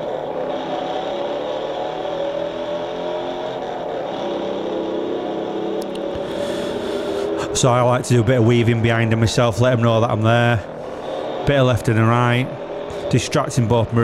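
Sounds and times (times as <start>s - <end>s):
car engines running hard: 0.0s - 14.0s.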